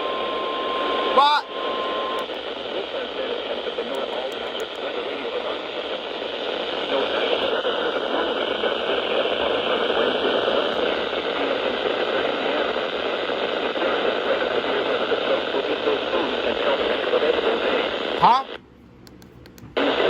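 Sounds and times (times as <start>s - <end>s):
radio static hiss: 0.0s - 18.6s, 19.7s - 20.0s.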